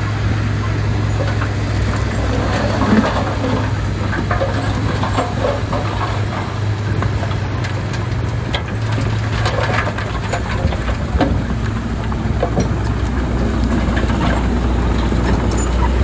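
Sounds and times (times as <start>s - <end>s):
bulldozer diesel engine running: 0.0s - 16.0s
clanking steel tracks and blade: 0.3s - 16.0s.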